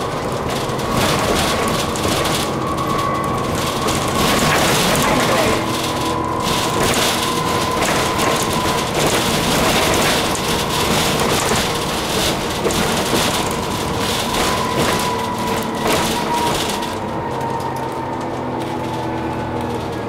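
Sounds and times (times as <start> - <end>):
bus engine hum with whine: 0.0 - 20.0
road noise: 0.0 - 20.0.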